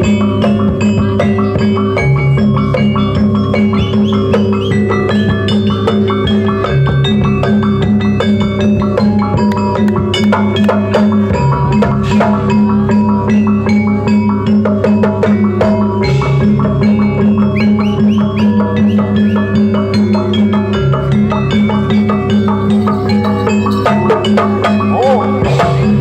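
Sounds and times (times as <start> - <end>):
gamelan ensemble playing: 0.0 - 26.0.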